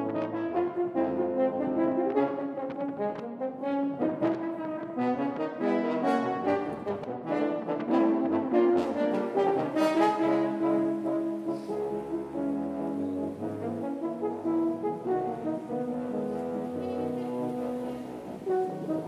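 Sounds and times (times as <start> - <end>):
instrumental background music: 0.0 - 19.0.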